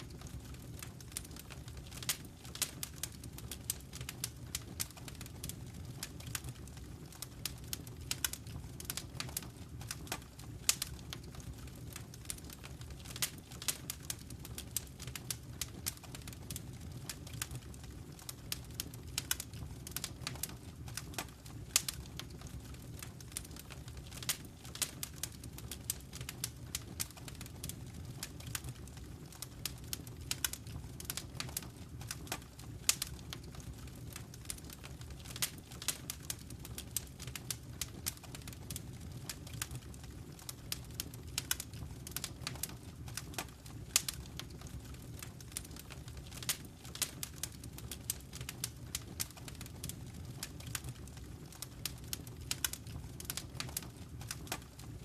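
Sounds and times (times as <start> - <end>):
fire rumbling: 0.0 - 55.0
wood fire crackling: 0.0 - 55.0.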